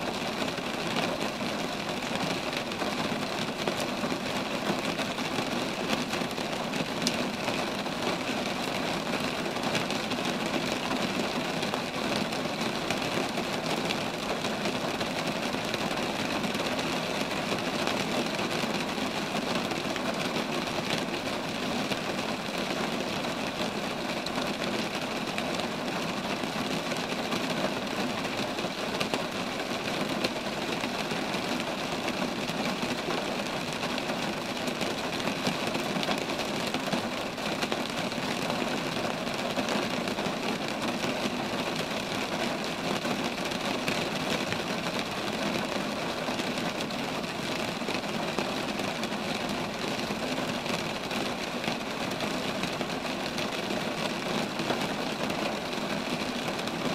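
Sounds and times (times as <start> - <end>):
rain falling on trees: 0.0 - 56.9.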